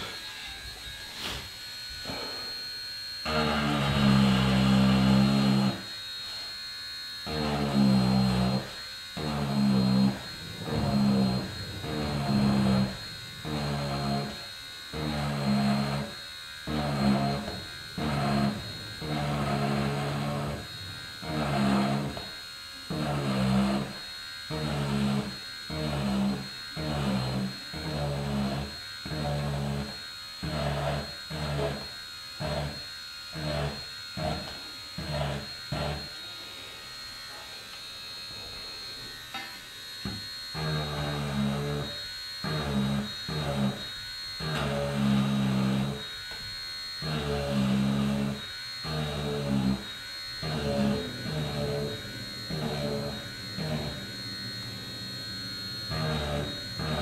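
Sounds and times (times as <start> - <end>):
rotary tool cutting wood: 0.0 - 57.0.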